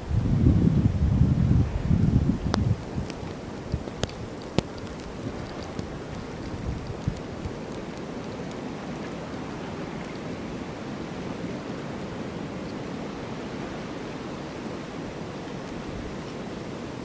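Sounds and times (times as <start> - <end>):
snowstorm wind rushing: 0.0 - 17.0.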